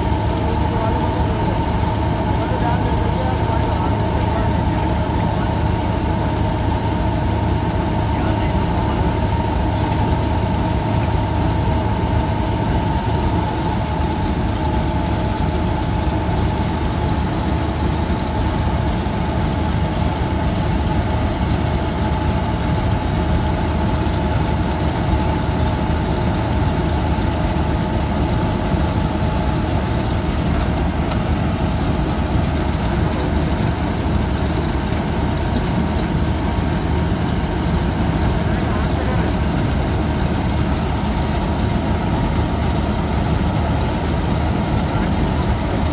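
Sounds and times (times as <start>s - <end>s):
grain auger humming: 0.0s - 45.9s
harvester engine drone: 0.0s - 45.9s.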